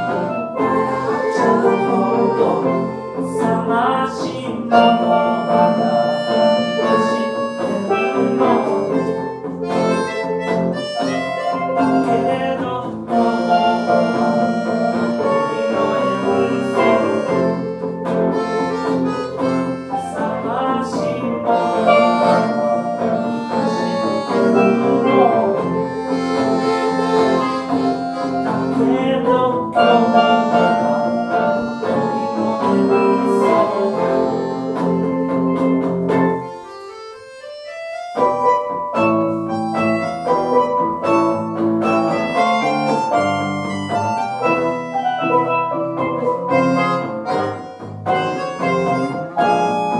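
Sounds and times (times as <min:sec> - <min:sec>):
live band music: 0:00.0 - 0:49.9.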